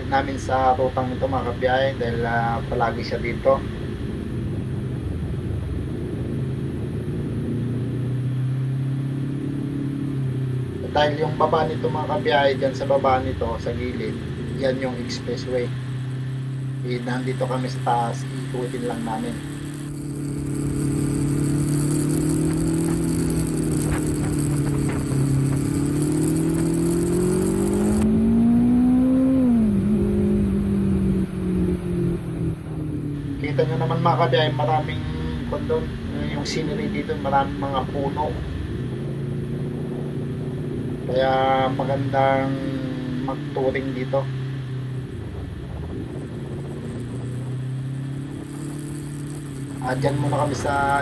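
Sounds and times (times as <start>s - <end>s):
motorcycle engine cruising: 0.0s - 51.0s
wind and road rumble: 0.0s - 51.0s.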